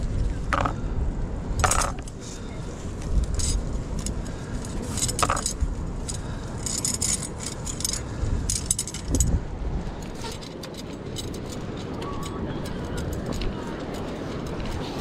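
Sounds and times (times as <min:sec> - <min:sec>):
steady low rumble: 0:00.0 - 0:15.0
metal wire hoops clinking: 0:00.5 - 0:00.8, 0:01.6 - 0:02.2, 0:03.1 - 0:09.4, 0:10.0 - 0:15.0.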